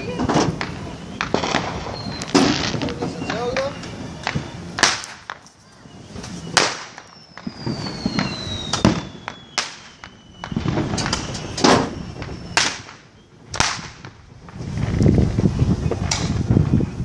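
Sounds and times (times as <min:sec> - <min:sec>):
falling firework whistle: 0:00.0 - 0:17.0
fireworks bangs and cracks: 0:00.0 - 0:17.0.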